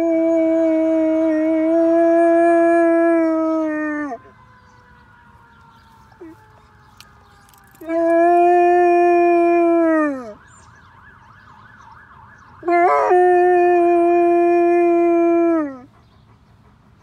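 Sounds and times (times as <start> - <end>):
faint fire truck siren: 0.0 - 16.6.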